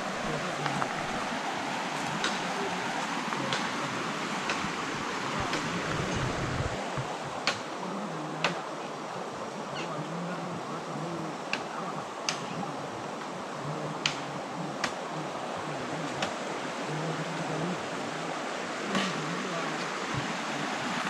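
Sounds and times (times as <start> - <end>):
river over rapids: 0.0 - 21.0.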